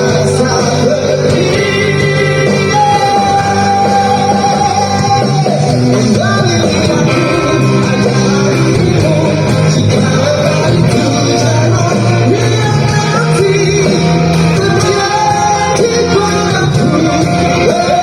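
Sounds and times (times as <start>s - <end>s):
person singing: 0.0s - 18.0s
rock band playing: 0.0s - 18.0s.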